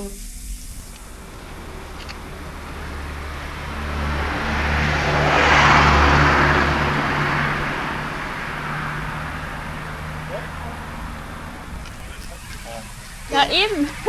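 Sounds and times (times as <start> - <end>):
car passing by: 1.2 - 13.4.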